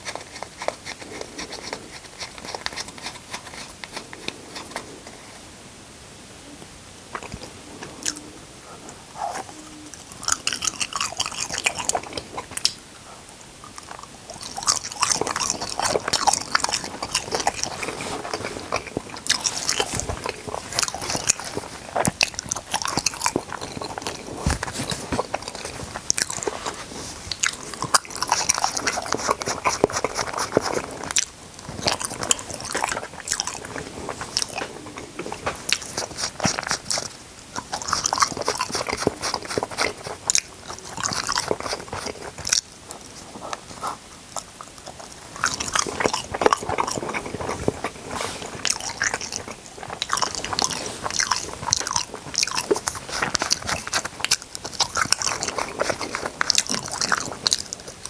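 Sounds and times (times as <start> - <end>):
crunchy chewing: 0.0 - 5.5, 7.1 - 58.0.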